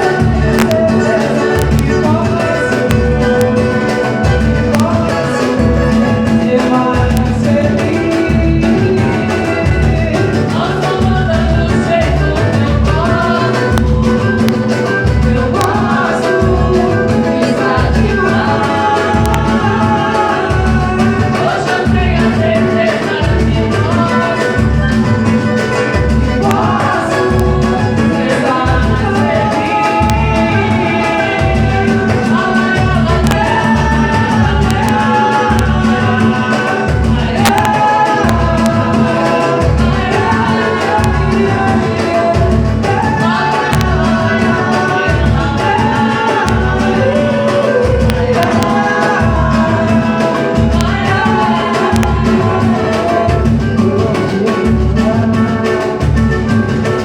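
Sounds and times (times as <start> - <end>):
low drum beat and percussion: 0.0 - 57.0
voices singing: 0.0 - 57.0.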